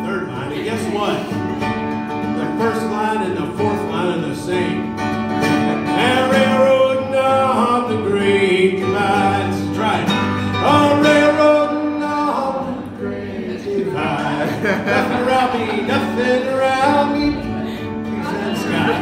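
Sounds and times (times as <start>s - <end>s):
strummed acoustic guitar: 0.0s - 19.0s
man singing: 2.2s - 5.0s, 5.6s - 19.0s.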